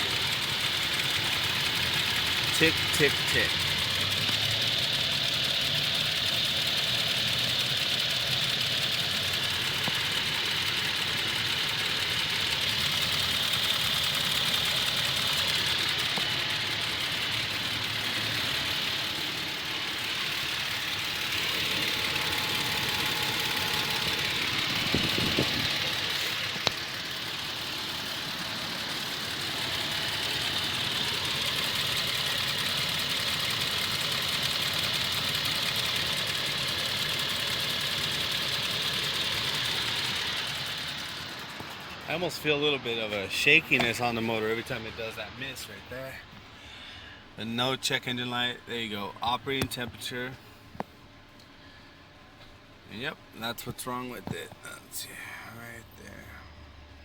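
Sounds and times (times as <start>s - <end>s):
engine idling: 0.0s - 57.0s
engine ticking: 0.0s - 57.0s.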